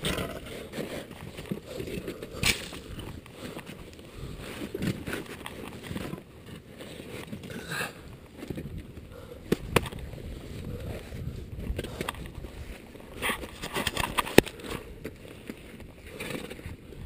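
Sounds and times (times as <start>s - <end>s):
hands and boots scraping snow and rock: 0.0s - 17.0s.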